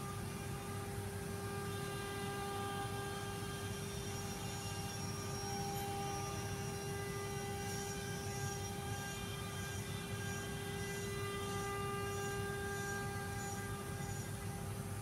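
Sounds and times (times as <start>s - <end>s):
router machine hum: 0.0s - 15.0s.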